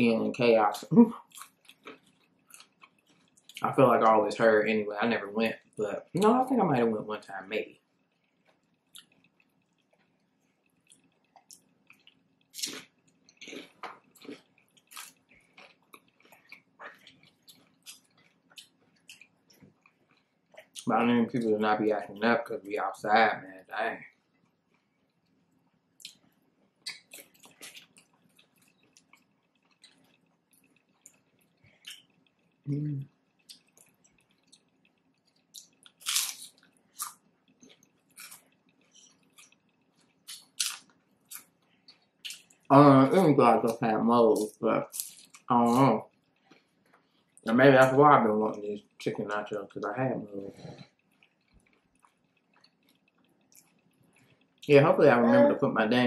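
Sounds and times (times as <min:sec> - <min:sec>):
crunchy chewing: 0:00.7 - 0:04.1, 0:07.2 - 0:21.5, 0:23.6 - 0:49.9, 0:50.5 - 0:54.7.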